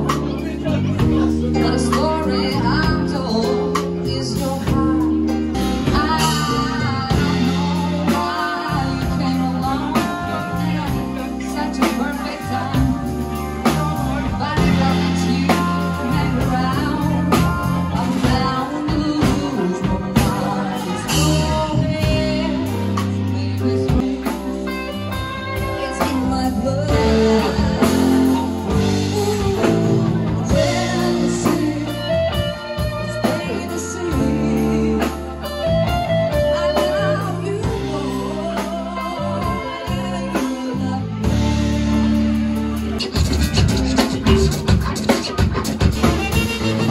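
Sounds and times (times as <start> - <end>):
song with singing guitar and bass: 0.0 - 46.9.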